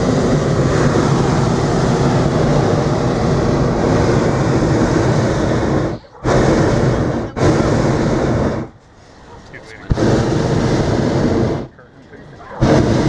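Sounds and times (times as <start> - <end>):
propane burner roaring: 0.0 - 13.0.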